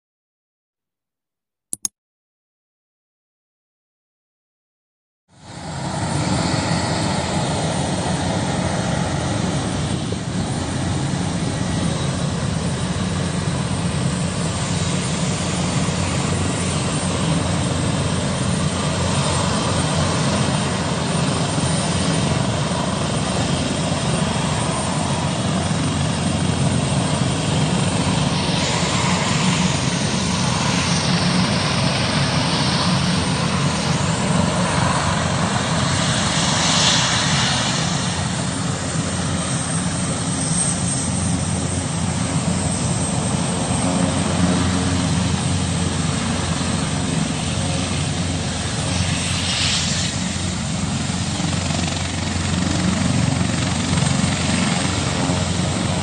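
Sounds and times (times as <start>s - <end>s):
helicopter rotor and engines: 5.3s - 56.0s.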